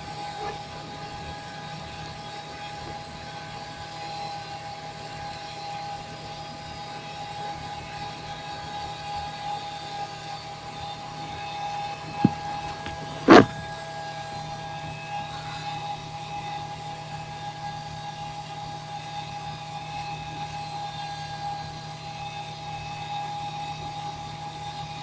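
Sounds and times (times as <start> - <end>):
cockpit equipment whine and hum: 0.0 - 25.0.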